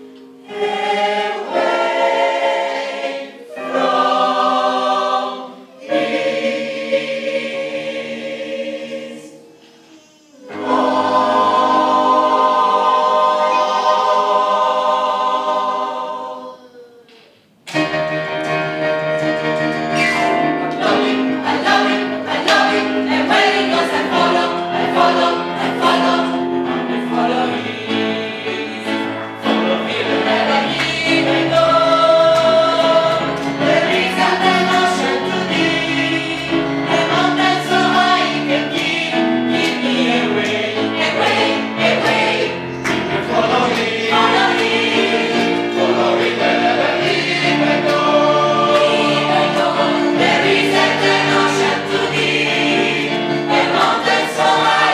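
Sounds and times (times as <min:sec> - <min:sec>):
gospel choir singing: 0:00.0 - 0:16.8, 0:17.7 - 0:54.9.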